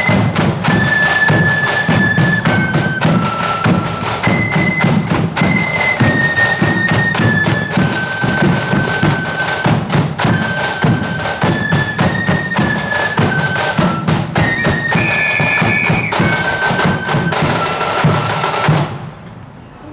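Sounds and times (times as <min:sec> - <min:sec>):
flutes playing melody: 0:00.0 - 0:18.9
drums beating: 0:00.0 - 0:19.2.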